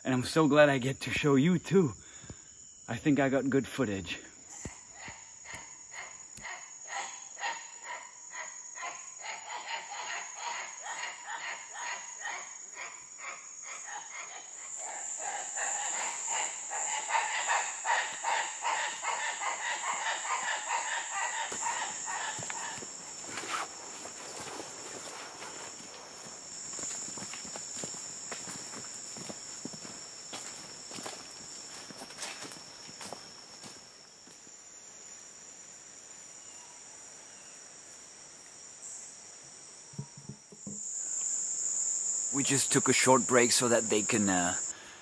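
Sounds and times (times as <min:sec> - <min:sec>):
rapid pulsing insect call: 0:00.0 - 0:45.0
high-pitched insect drone: 0:00.4 - 0:45.0.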